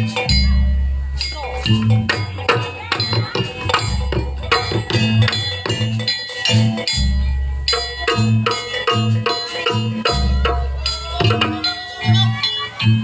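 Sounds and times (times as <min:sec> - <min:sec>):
deep drum beats: 0:00.0 - 0:13.0
ringing metallic chime tones: 0:00.0 - 0:13.0.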